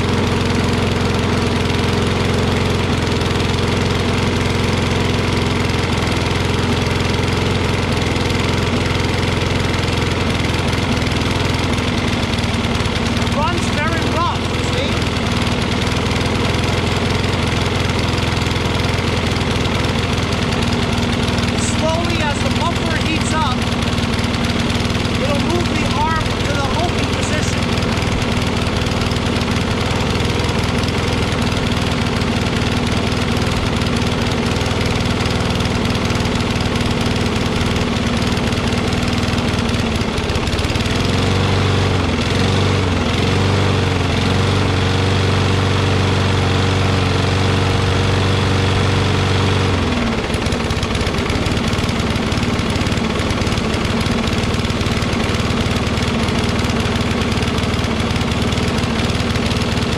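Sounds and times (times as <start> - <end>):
lawn mower engine running roughly: 0.0 - 59.9.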